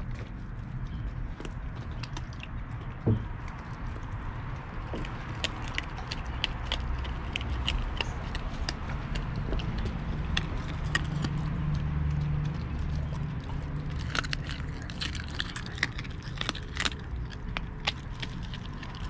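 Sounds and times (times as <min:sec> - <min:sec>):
puppy chewing raw fish: 0:00.0 - 0:19.0.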